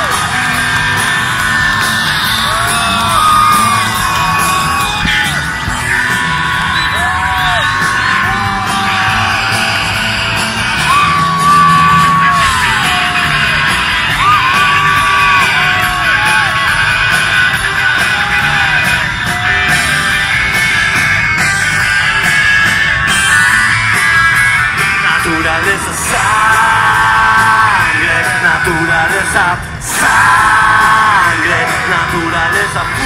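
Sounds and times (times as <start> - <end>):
crowd yelling and cheering: 0.0 - 33.0
electric guitar lead: 0.0 - 33.0
live rock band playing: 0.0 - 33.0.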